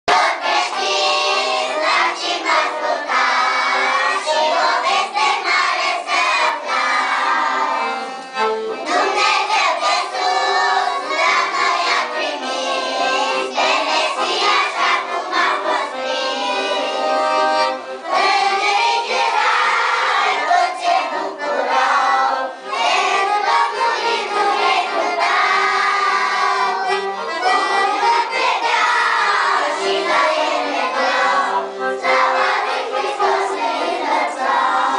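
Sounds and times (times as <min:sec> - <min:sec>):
children singing: 0:00.1 - 0:34.9
instrumental accompaniment: 0:00.1 - 0:34.9.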